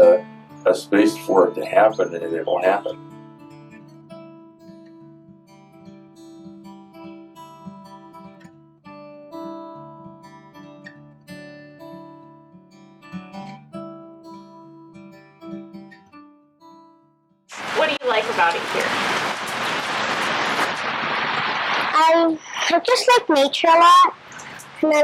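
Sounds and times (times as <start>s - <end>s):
acoustic guitar picking and strumming: 0.0s - 17.2s, 17.8s - 25.0s.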